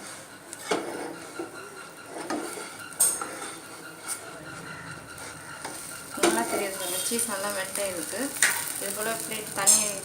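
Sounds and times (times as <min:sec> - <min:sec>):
utensils clinking against pan: 0:00.6 - 0:10.0.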